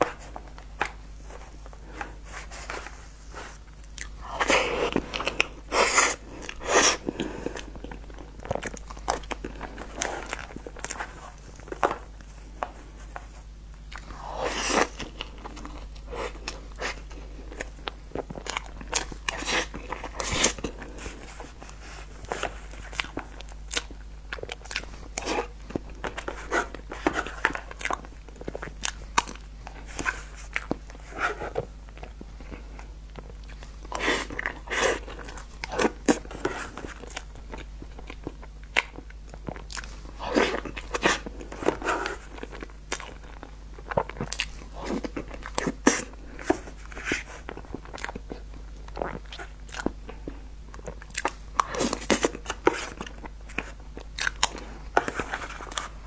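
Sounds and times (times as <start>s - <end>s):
wet chewing and lip-smacking: 3.7s - 12.3s, 13.8s - 56.0s.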